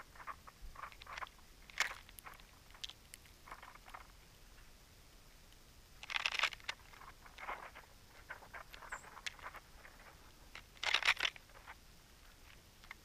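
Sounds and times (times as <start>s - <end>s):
bird cracking seeds: 0.0s - 4.2s, 6.0s - 13.0s.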